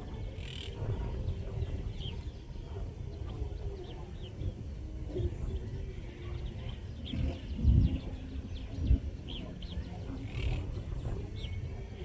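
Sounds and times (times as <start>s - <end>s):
distant crowd murmur: 0.0s - 12.0s
birds chirping: 1.1s - 12.0s.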